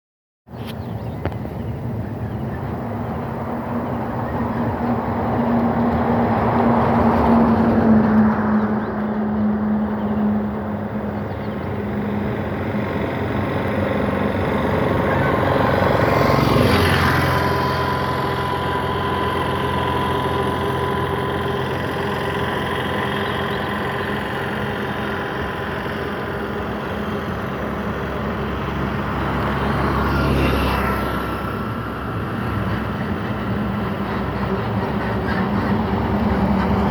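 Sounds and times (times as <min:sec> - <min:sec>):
vehicle engine droning hum: 0:00.5 - 0:36.9.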